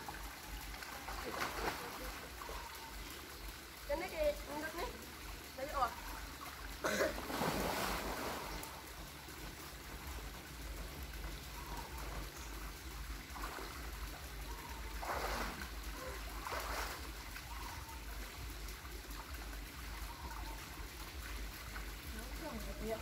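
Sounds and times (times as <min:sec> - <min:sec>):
pool water trickling and lapping: 0:00.0 - 0:23.0
water splashes: 0:00.0 - 0:23.0.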